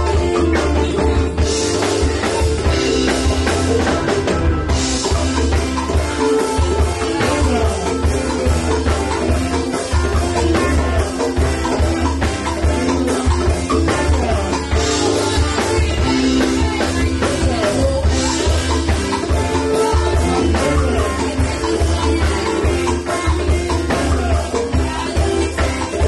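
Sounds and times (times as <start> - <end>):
live band with electric guitar: 0.0 - 26.0.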